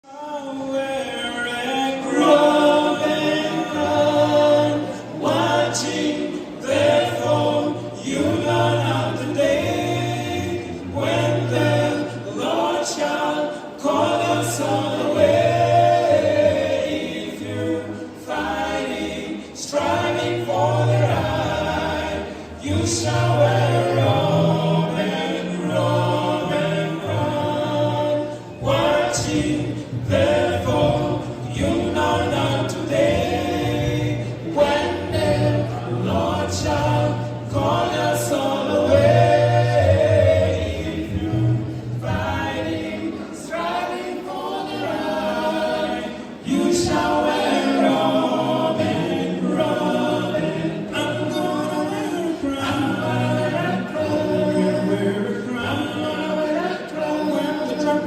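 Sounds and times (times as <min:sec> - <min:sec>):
vocal group singing in harmony: 0:00.0 - 0:58.0.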